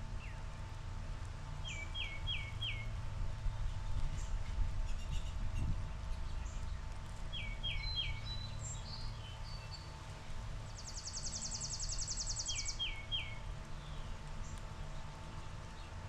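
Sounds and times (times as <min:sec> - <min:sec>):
low steady background rumble: 0:00.0 - 0:16.0
songbirds singing: 0:00.0 - 0:16.0.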